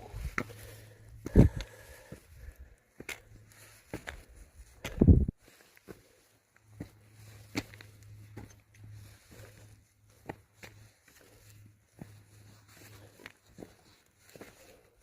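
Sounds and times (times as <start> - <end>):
footsteps on rough trail: 0.0 - 15.0.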